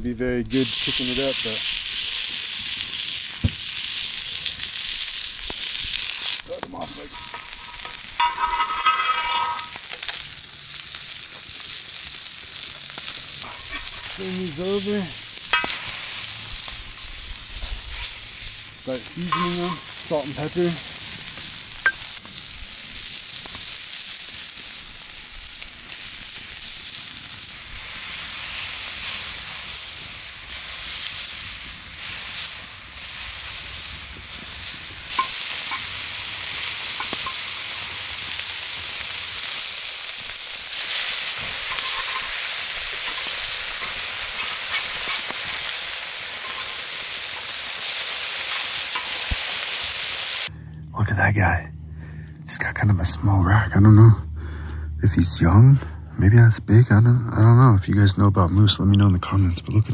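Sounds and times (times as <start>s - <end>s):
burger patties sizzling on griddle: 0.5s - 50.5s.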